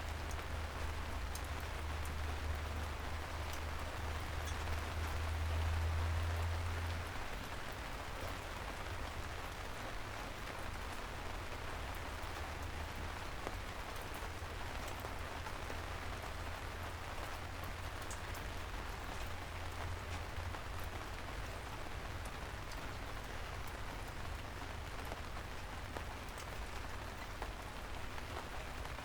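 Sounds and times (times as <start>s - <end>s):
soft rain on a street: 0.0s - 29.0s.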